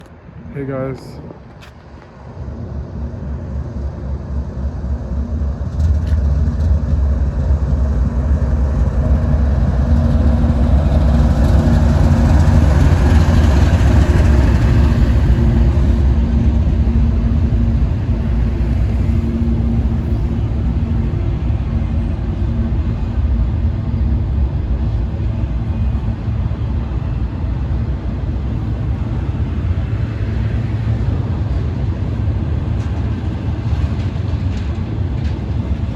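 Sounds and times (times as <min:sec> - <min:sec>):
diesel locomotive engine rumble: 0:00.0 - 0:35.9.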